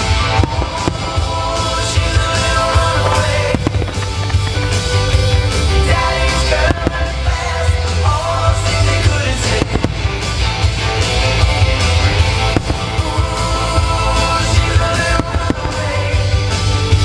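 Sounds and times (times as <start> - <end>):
fireworks bursting: 0.0 - 17.0
music with strong beat: 0.0 - 17.0.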